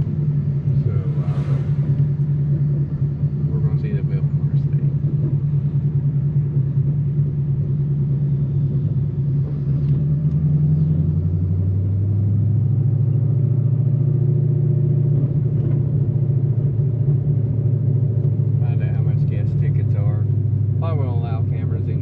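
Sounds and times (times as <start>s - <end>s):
car engine exhaust drone: 0.0s - 22.0s.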